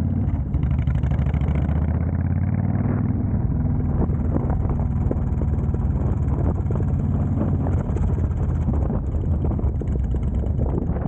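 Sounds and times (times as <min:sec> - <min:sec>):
motorcycle engine riding steadily: 0:00.0 - 0:11.0.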